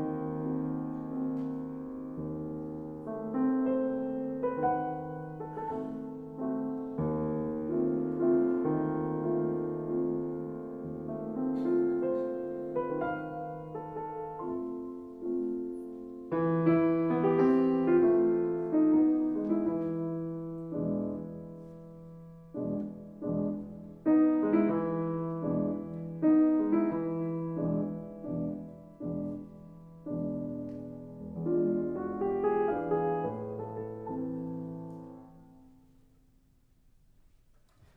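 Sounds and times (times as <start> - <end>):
slow solo piano music: 0.0 - 36.1.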